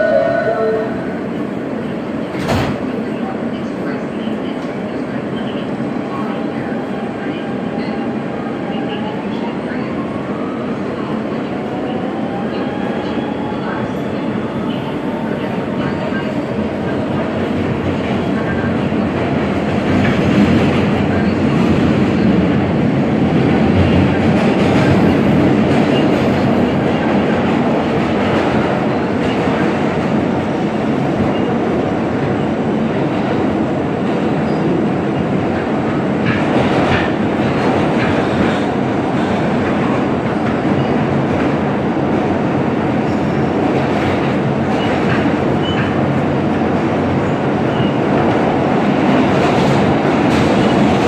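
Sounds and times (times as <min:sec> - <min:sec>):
subway car rumble and rail noise: 0:00.0 - 0:51.0.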